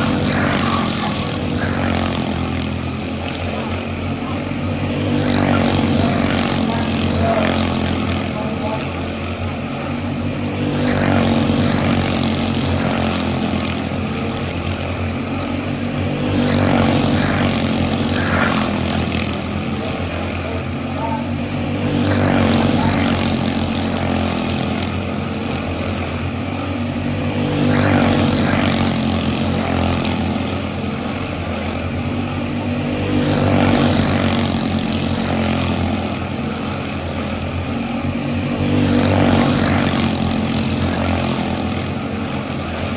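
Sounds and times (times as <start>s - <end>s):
go-kart engines buzzing: 0.0s - 42.9s.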